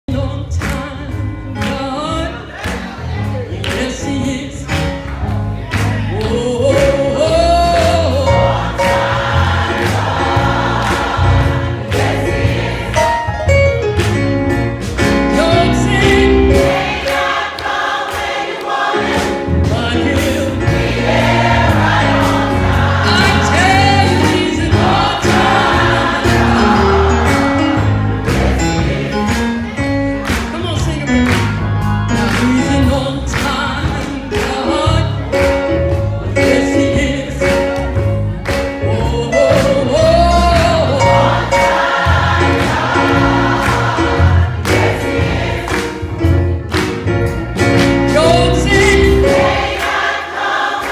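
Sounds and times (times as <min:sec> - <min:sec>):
instrumental backing with steady beat: 0:00.1 - 0:50.9
gospel choir singing in harmony: 0:00.5 - 0:30.4, 0:31.2 - 0:50.9
bass line: 0:03.0 - 0:17.0, 0:19.4 - 0:49.7.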